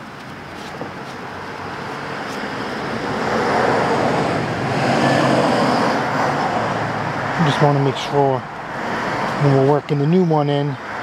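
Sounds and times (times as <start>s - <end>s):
motor vehicle approaching: 0.0s - 11.0s.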